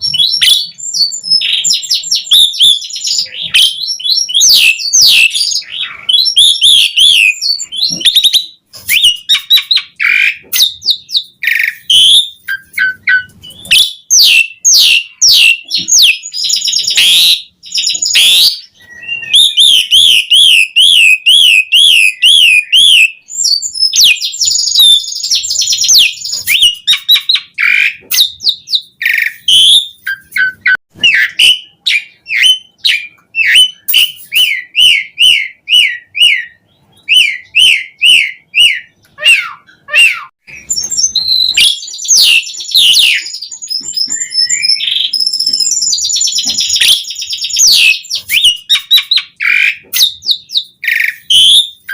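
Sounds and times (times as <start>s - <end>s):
starling singing: 0.0s - 51.9s
wavering bird trill: 0.0s - 51.9s.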